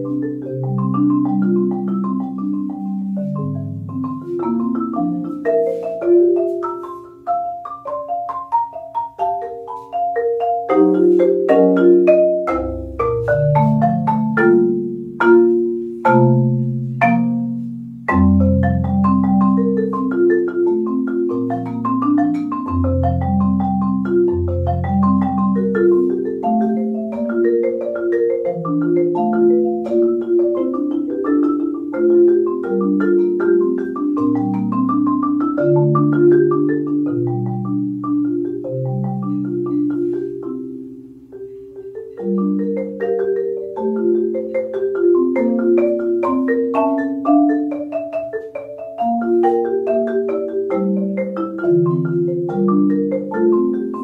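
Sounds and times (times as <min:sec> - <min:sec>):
marimba playing: 0:00.0 - 0:54.0.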